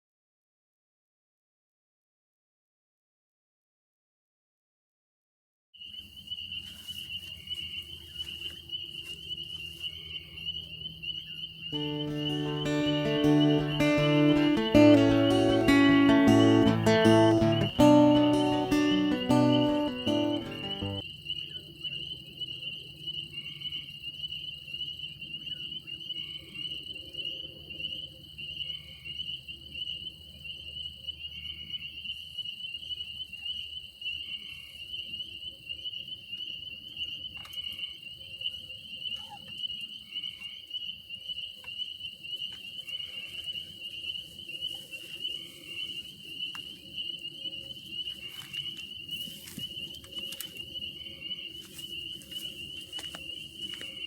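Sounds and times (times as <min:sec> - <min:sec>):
crickets trilling: 0:05.8 - 0:54.0
lower insect call: 0:05.8 - 0:54.0.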